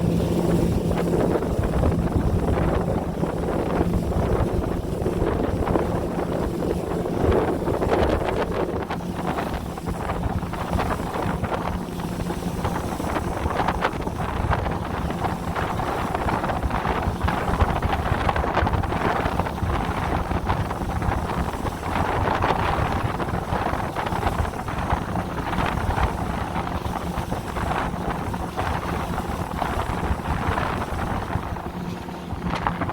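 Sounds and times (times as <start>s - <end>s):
boat motor humming: 0.0s - 32.9s
water rushing: 0.0s - 32.9s
wind buffeting microphone: 0.0s - 32.9s.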